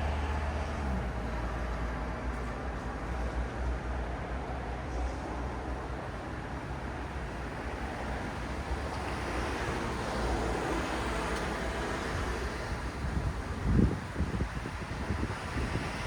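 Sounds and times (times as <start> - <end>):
low traffic rumble: 0.0 - 16.0
passing cars: 0.0 - 16.0.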